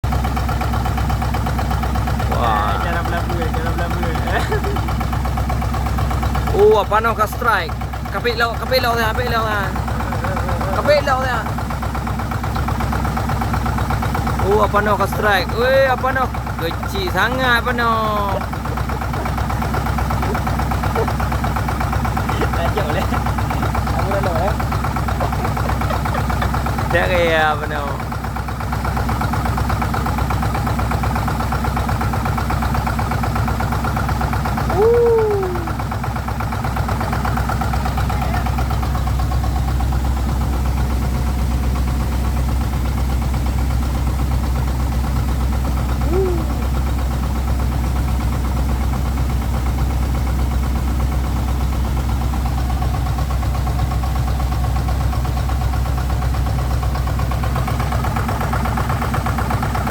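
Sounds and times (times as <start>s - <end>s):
excavator engine idling: 0.0s - 59.9s.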